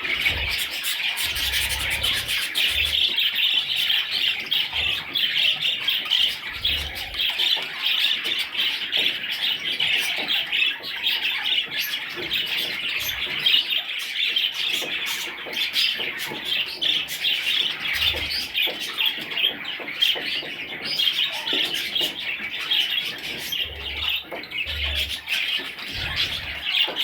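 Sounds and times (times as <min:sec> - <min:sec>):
budgerigars chattering and squawking: 0:00.0 - 0:27.0.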